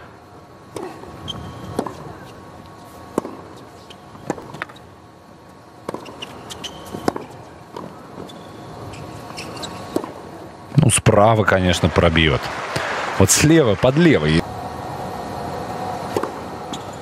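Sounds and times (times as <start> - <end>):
low stadium hum: 0.0 - 17.0.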